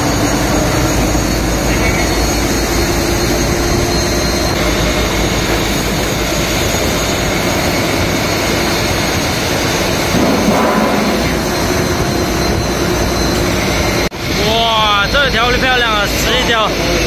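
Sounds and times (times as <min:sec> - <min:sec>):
loud engine drone: 0:00.0 - 0:17.0.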